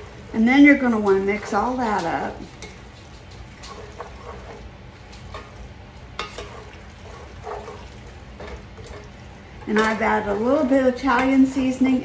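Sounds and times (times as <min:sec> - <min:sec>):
spoon scraping a skillet: 0:00.0 - 0:11.6.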